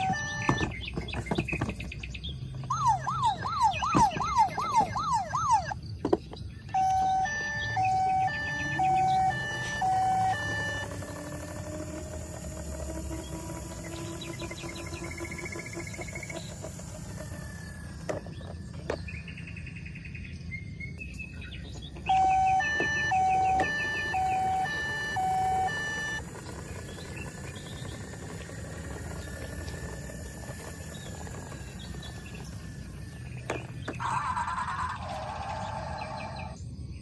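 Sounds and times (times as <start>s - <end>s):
toy siren two-tone: 0.0s - 0.7s, 2.6s - 5.8s, 6.7s - 18.3s, 22.0s - 36.6s.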